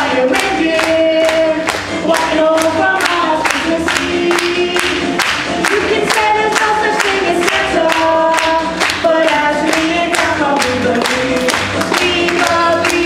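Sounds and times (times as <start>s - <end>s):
group singing in harmony: 0.0s - 13.0s.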